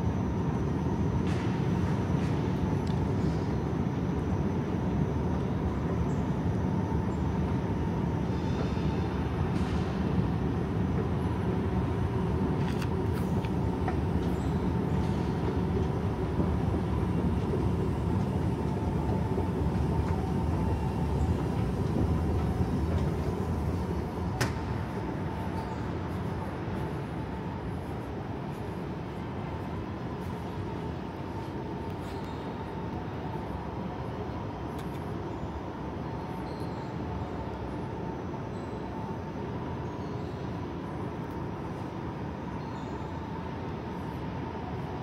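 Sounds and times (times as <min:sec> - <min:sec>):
faint constant tone: 0:00.0 - 0:45.0
low rumble of vehicles: 0:00.0 - 0:45.0.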